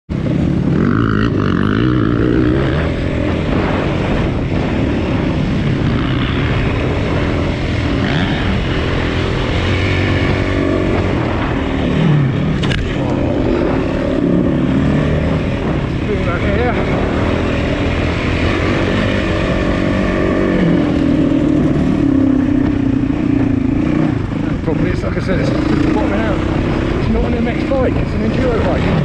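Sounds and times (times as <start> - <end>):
motorcycle engine running: 0.1 - 29.0.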